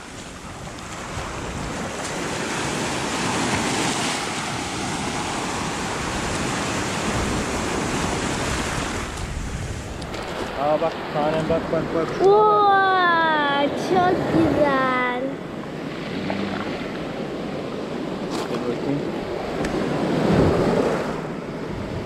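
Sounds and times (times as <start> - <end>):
wind rumbling on microphone: 0.0 - 12.9, 13.7 - 22.0
waves washing on shore: 0.0 - 22.0.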